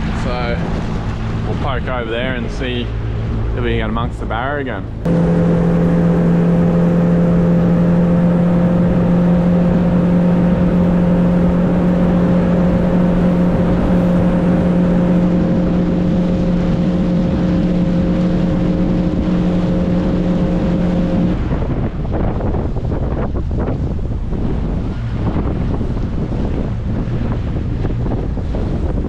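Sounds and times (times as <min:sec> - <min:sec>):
outboard motor humming: 0:00.0 - 0:29.0
wind and water rushing: 0:00.0 - 0:29.0.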